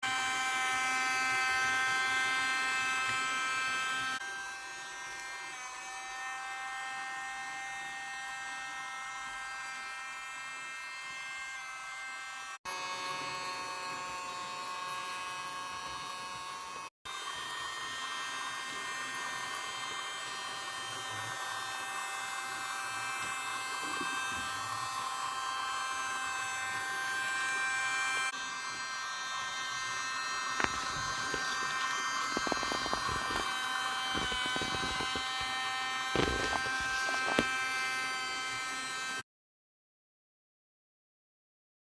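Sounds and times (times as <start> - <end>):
small electric motor whining: 0.0 - 39.2.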